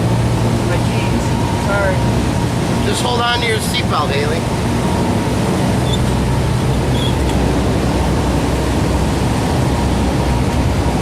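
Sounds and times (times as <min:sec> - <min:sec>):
airflow noise: 0:00.0 - 0:11.0
plane engine and propeller drone: 0:00.0 - 0:11.0.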